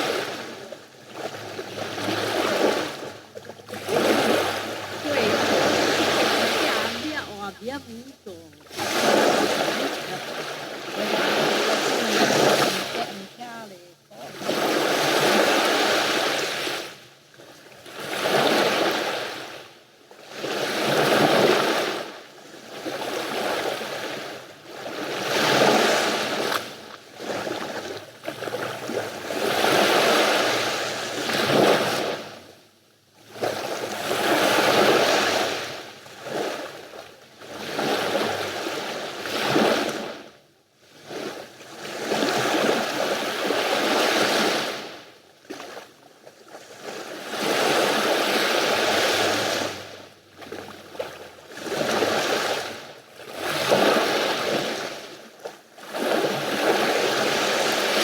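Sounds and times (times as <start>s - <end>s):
sea waves breaking: 0.0s - 17.1s, 17.8s - 32.5s, 33.3s - 40.3s, 41.0s - 45.9s, 46.5s - 58.0s.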